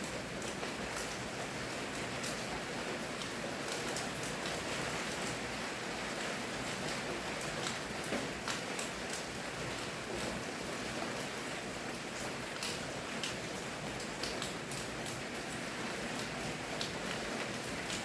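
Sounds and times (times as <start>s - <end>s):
raindrops pattering on a surface: 0.0s - 18.0s.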